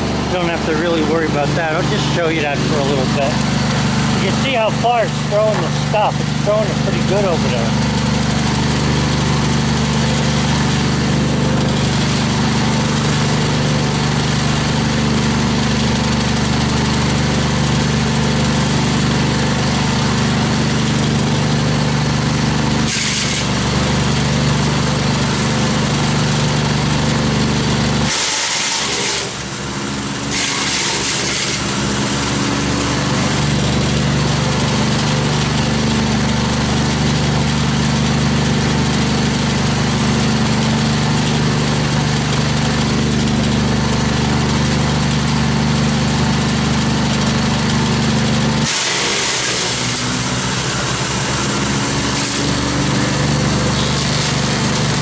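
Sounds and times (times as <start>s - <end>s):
wood chipper engine running: 0.0s - 55.0s.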